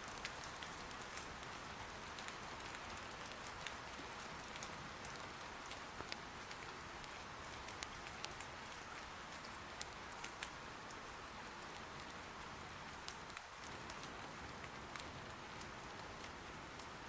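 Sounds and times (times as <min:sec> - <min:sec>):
soft rain hiss: 0:00.0 - 0:17.0.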